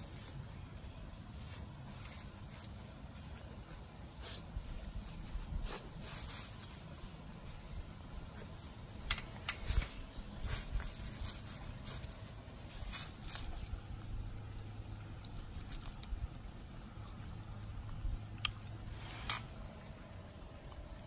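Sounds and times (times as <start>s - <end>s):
puppy rustling through grass: 0.0s - 20.1s
crackles of grass and leaves: 0.0s - 21.0s.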